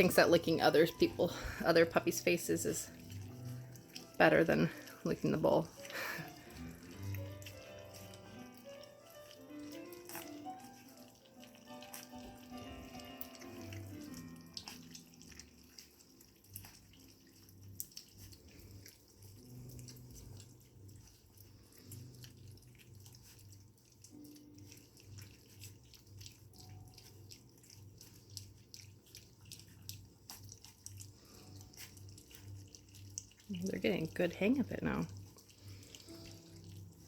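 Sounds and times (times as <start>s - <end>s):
puppies lapping and slurping: 0.0s - 37.0s.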